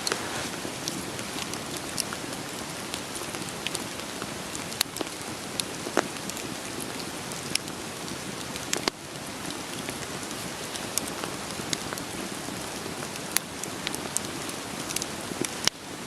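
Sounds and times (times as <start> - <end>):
rain pattering: 0.0 - 16.0
wood fire crackling: 0.0 - 16.0.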